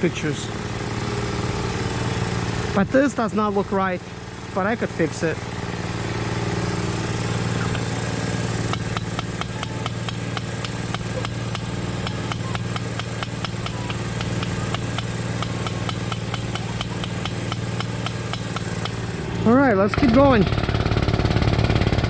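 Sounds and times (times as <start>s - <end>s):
motor running steadily: 0.0s - 22.0s.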